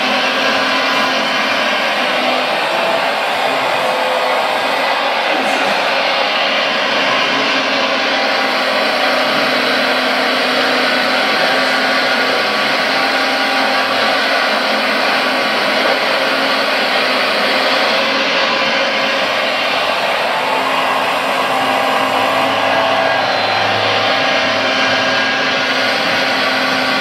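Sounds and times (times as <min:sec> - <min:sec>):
model excavator engine sound whirring: 0:00.0 - 0:27.0.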